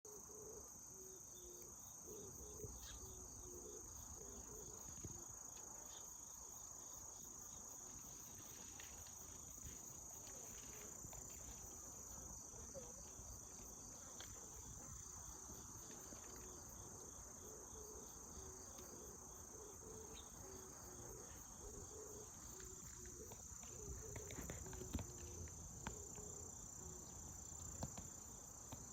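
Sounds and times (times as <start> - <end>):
insect chorus drone: 0.1 - 28.9.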